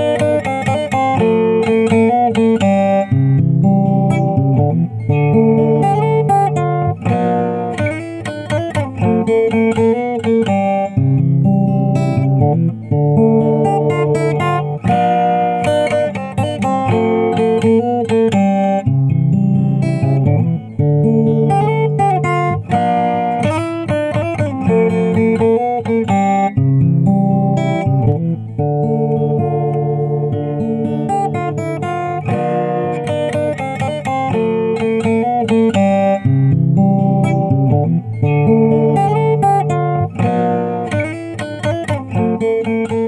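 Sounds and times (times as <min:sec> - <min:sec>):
guitar playing a repeating melody: 0:00.0 - 0:43.0.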